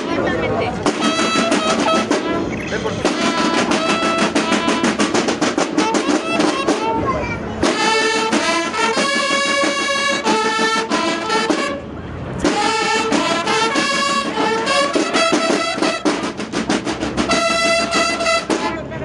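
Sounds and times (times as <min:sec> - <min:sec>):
bugles playing sustained notes: 0:00.0 - 0:18.8
snare drum beats: 0:00.8 - 0:07.0, 0:07.6 - 0:18.8.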